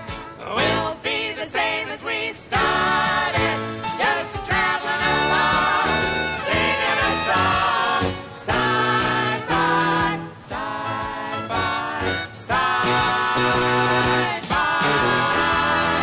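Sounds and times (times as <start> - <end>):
voices singing together: 0.4 - 16.0
instrumental accompaniment: 2.6 - 16.0.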